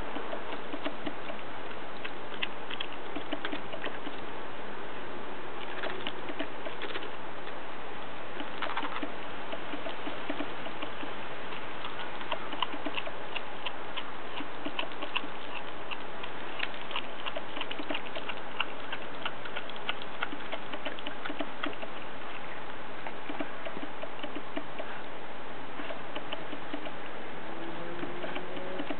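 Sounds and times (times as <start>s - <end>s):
puppy chewing wet clicks: 0.0s - 4.3s, 5.6s - 25.1s, 25.8s - 27.2s, 27.8s - 28.9s
steady background hiss: 0.0s - 28.9s.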